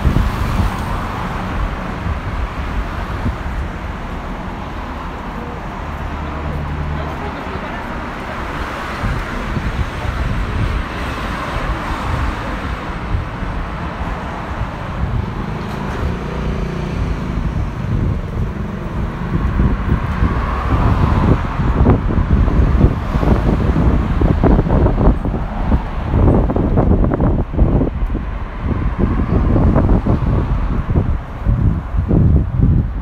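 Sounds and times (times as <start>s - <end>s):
city street traffic passing: 0.0s - 33.0s
wind buffeting the microphone: 0.0s - 33.0s.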